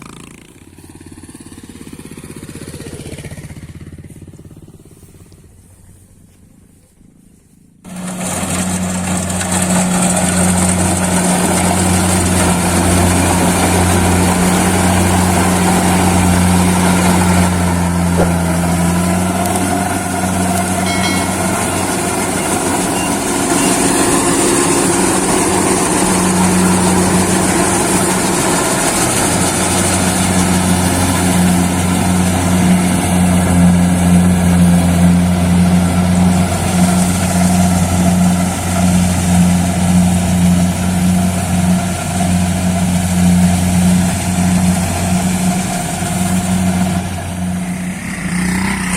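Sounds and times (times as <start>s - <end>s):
combine harvester diesel engine: 0.0s - 48.9s.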